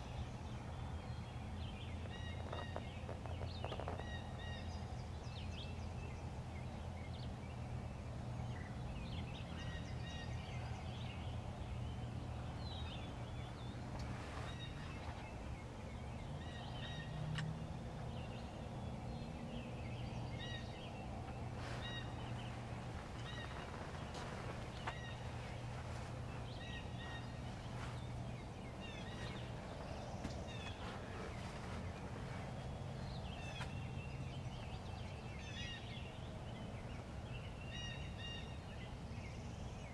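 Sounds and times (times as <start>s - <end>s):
steady low rumble: 0.0s - 39.8s.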